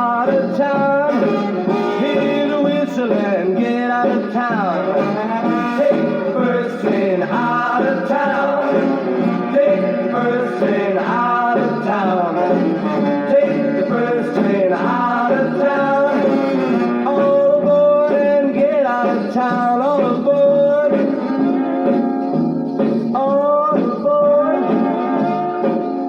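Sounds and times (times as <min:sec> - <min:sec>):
rock and roll band on record: 0:00.0 - 0:26.0.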